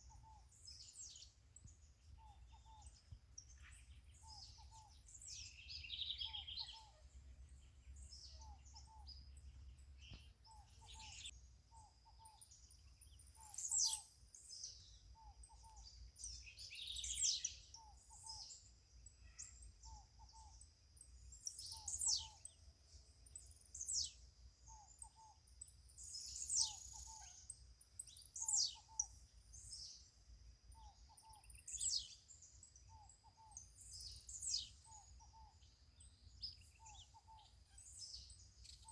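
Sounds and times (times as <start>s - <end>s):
birds chirping and calling: 2.1s - 20.7s, 21.4s - 22.6s, 26.0s - 30.0s, 30.7s - 38.9s.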